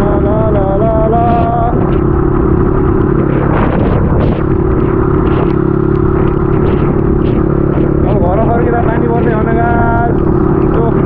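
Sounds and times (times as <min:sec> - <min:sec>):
dirt bike engine running: 0:00.0 - 0:11.0
wind rushing over microphone: 0:00.0 - 0:11.0.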